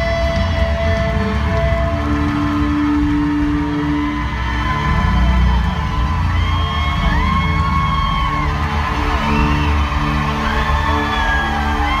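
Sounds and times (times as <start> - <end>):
live folk-rock band playing: 0.0 - 12.0.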